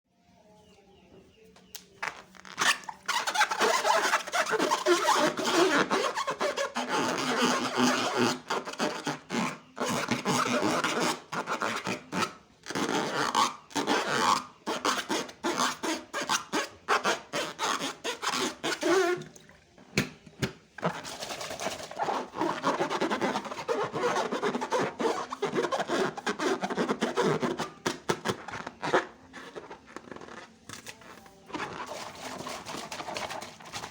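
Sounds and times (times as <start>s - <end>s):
slime and balloons rubbing: 2.0s - 19.4s, 20.8s - 33.9s.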